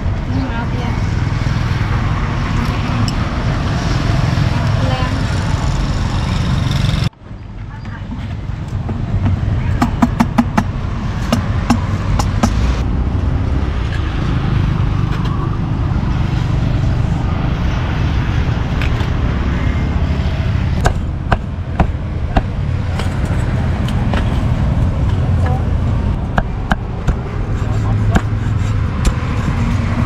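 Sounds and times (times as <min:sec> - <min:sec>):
traffic rumble: 0:00.0 - 0:30.0.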